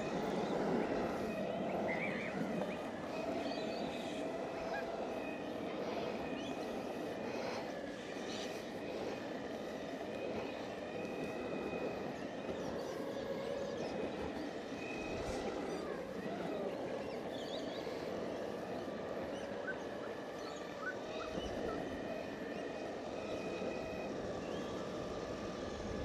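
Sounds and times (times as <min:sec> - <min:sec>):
birds chirping: 0:00.0 - 0:26.0
electric skateboard rolling on pavement: 0:00.0 - 0:26.0.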